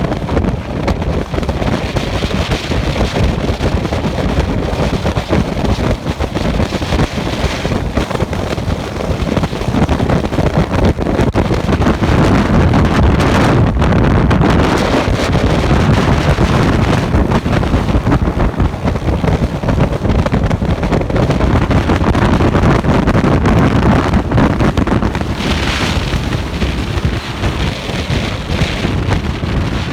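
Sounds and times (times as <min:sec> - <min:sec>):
road noise: 0:00.0 - 0:29.9
wind rushing over microphone: 0:00.0 - 0:29.9
motorcycle engine: 0:00.6 - 0:29.9.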